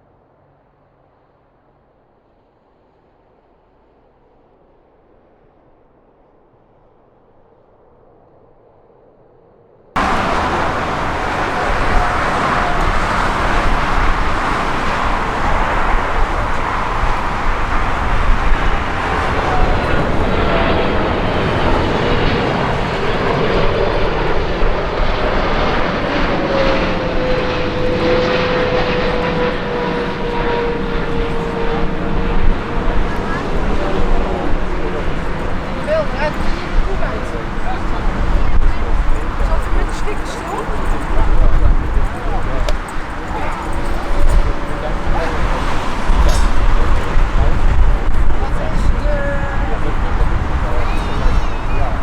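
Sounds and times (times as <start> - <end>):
jet airliner engines: 0.0 - 52.0
whining turbine tone: 10.0 - 52.0.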